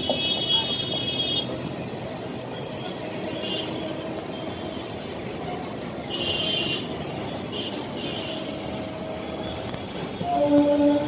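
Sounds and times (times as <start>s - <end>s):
train rumbling: 0.0s - 11.0s
wheels squealing on rails: 0.0s - 11.0s.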